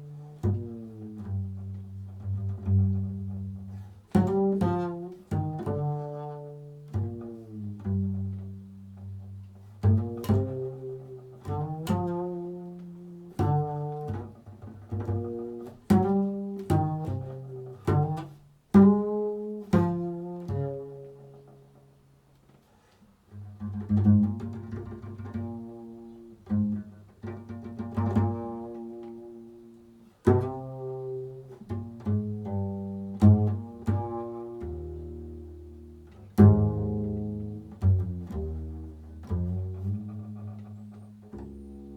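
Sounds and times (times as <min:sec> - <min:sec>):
plucked low string notes: 0:00.0 - 0:21.8, 0:23.3 - 0:41.9.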